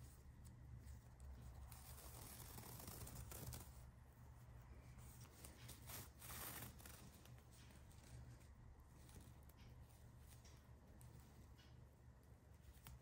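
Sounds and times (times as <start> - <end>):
rustling of a paper-yarn bag: 0.0 - 11.7.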